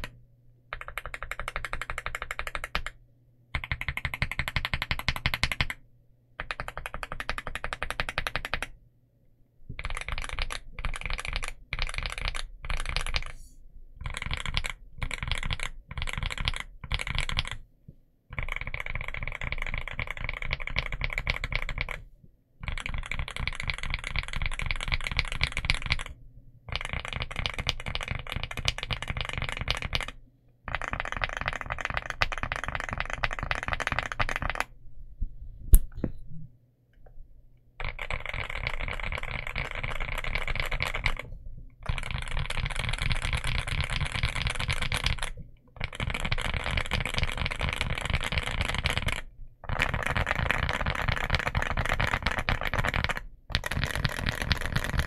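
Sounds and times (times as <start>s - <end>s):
mechanical keyboard typing: 0.0s - 3.0s, 3.6s - 5.8s, 6.4s - 8.8s, 9.8s - 13.3s, 14.0s - 17.6s, 18.3s - 22.0s, 22.6s - 34.7s, 37.8s - 55.0s.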